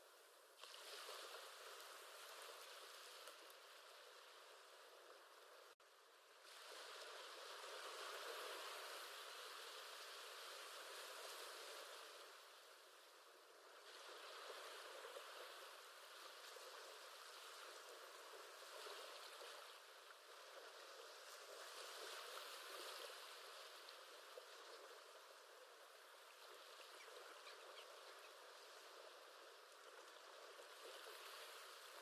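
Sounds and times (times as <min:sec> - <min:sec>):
faint ocean waves: 0:00.0 - 0:32.0.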